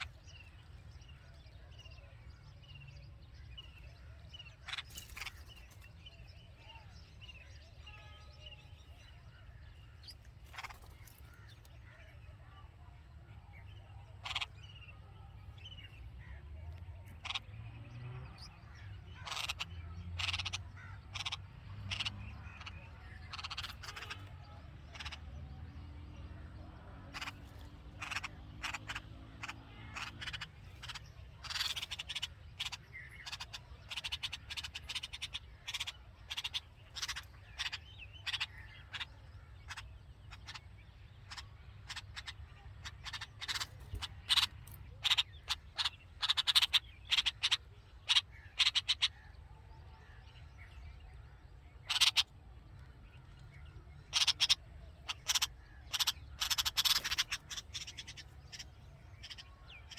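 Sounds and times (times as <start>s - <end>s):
bulbuls chirping: 0.0s - 59.9s.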